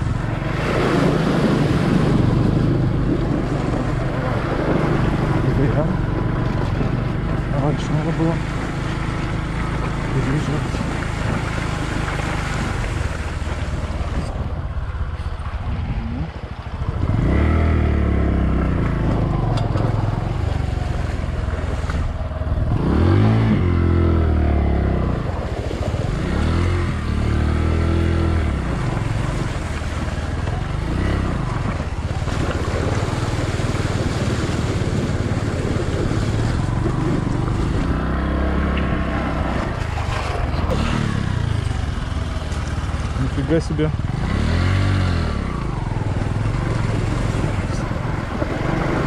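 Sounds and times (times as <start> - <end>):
motorcycle engine revving: 0.0 - 49.0
water rushing: 0.0 - 49.0.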